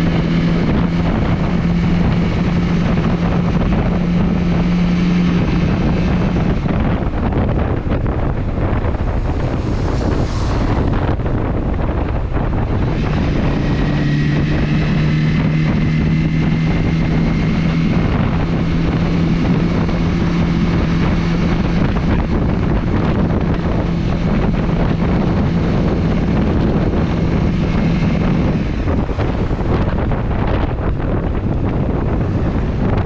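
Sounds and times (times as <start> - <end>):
motorcycle engine cruising: 0.0 - 33.0
wind rush on microphone: 0.0 - 33.0.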